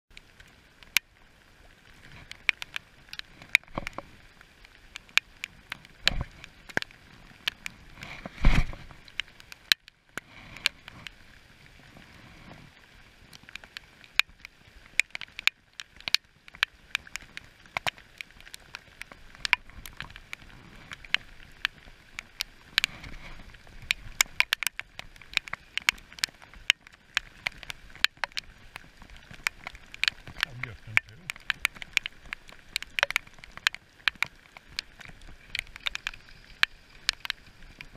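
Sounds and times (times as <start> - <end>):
rain hissing on river: 0.1 - 37.9
raindrops ticking on camera: 0.1 - 37.9.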